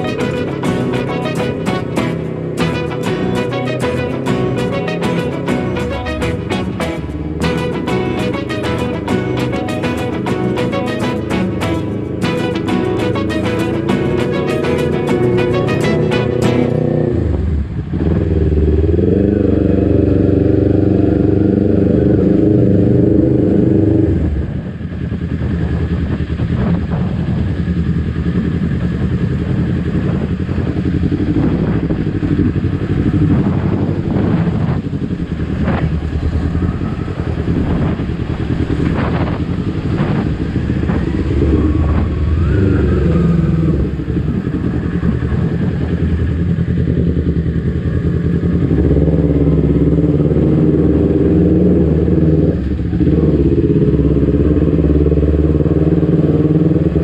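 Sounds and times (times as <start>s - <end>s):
engine clatter: 0.0s - 57.0s
motorcycle engine running: 0.0s - 57.0s.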